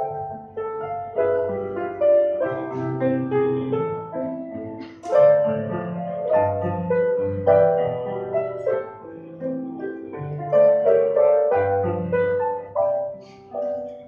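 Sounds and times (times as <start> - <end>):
grand piano: 0.0 - 14.0.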